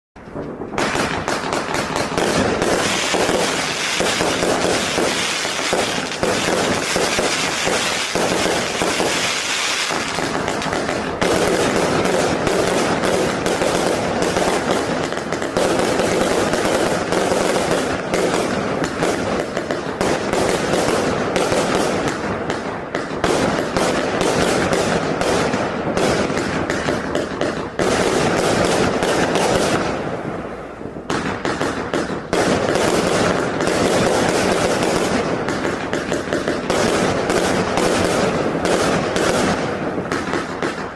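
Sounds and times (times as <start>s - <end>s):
firework cake firing: 0.2s - 40.9s.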